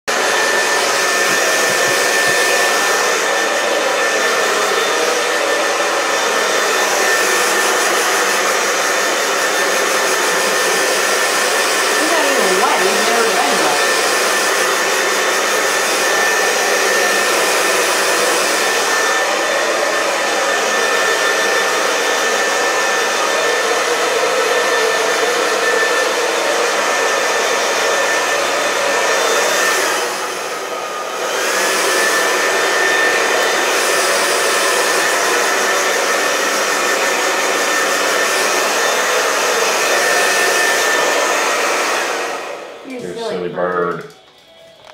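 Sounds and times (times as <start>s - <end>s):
hair dryer blowing: 0.0s - 44.9s.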